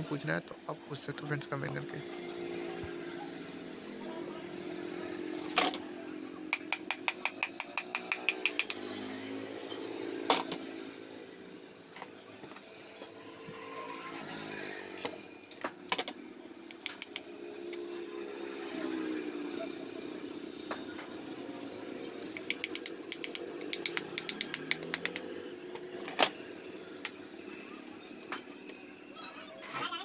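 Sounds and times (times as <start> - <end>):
engine hum: 0.0 - 30.0.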